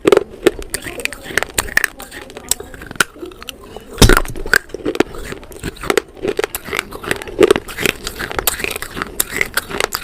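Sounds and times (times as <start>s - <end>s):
person chewing crunchy food: 0.0s - 10.0s
wet mouth sounds: 0.0s - 10.0s.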